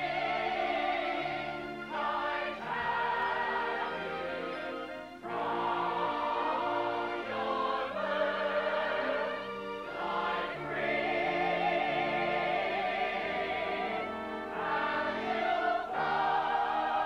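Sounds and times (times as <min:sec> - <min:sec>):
chorus singing with orchestra: 0:00.0 - 0:17.0.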